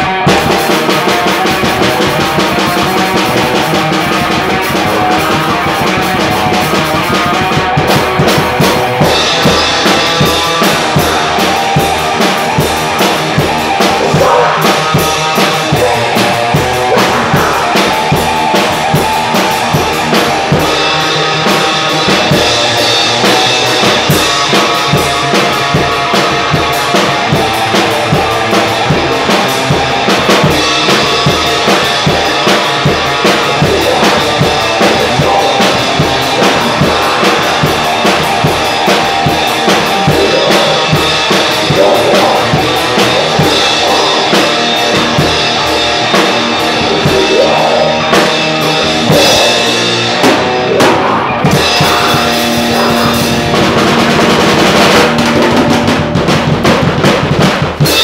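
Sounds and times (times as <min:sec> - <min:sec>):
distorted electric guitars: 0:00.0 - 0:58.0
fast loud drumming: 0:00.0 - 0:58.0.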